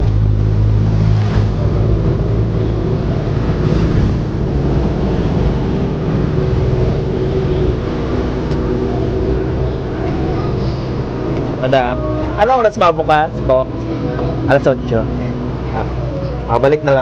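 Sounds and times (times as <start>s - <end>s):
low engine hum: 0.0s - 17.0s
vehicle road rumble: 0.0s - 17.0s
wind on microphone: 0.0s - 17.0s.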